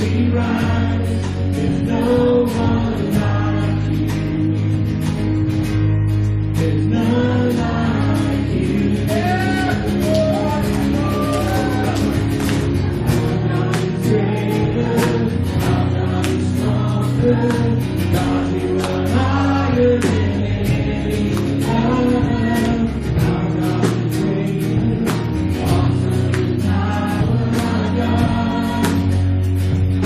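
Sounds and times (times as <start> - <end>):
voices singing together: 0.0 - 5.2, 6.6 - 30.0.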